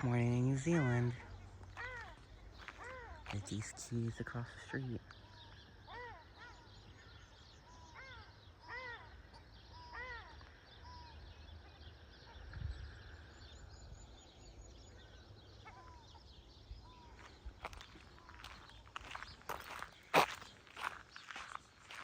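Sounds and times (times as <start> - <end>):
bird calling arched notes: 0.0 - 12.4, 13.5 - 22.0
faint high bird chirps: 0.0 - 22.0.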